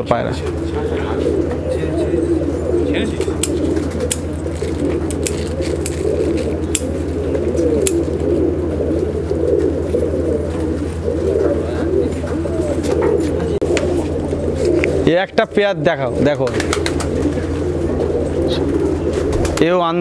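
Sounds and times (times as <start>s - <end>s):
pigeons cooing: 0.0s - 20.0s
steady low hum: 0.0s - 20.0s.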